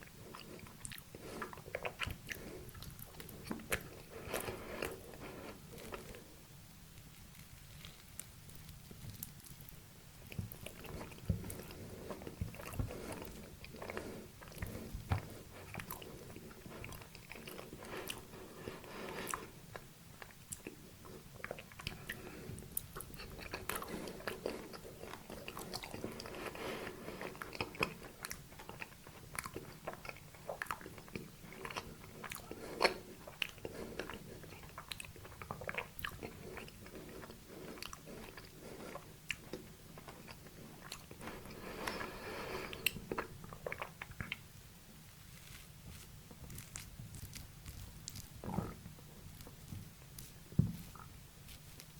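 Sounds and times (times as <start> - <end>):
crisp chewing and crunching: 0.0 - 6.4, 7.0 - 44.5, 45.1 - 51.9.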